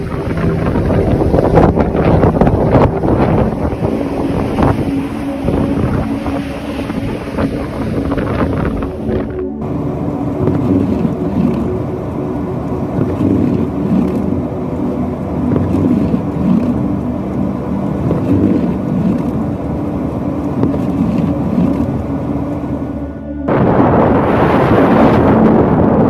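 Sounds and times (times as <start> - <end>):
motor rumbling: 0.0 - 26.0
wind noise: 0.0 - 26.0.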